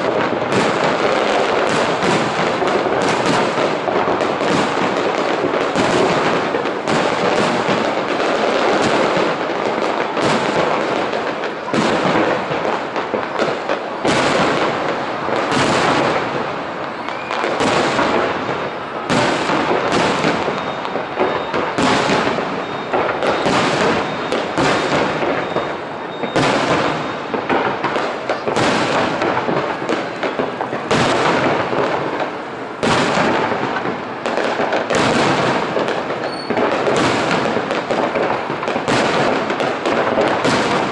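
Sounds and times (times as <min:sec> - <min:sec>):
firework shells bursting: 0:00.0 - 0:40.9.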